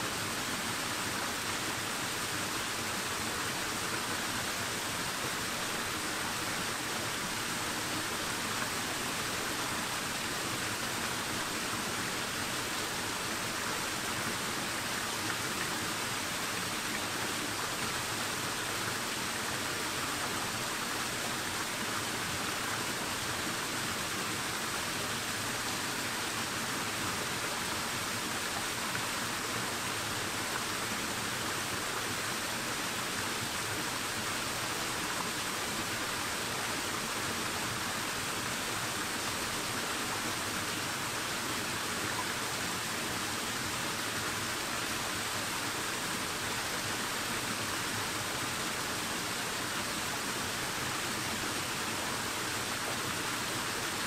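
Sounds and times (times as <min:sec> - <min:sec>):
stream pouring over rocks: 0:00.0 - 0:54.0.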